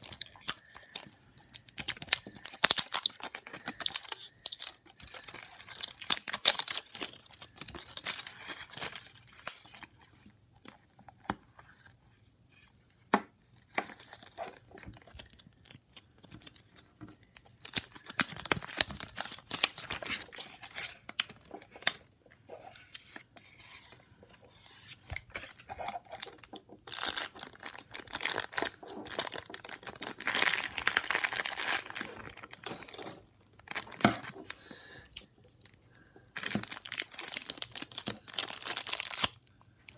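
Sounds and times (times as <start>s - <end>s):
plastic and paper crinkling: 0.0s - 11.1s, 13.6s - 23.9s, 24.8s - 34.8s, 35.4s - 39.4s.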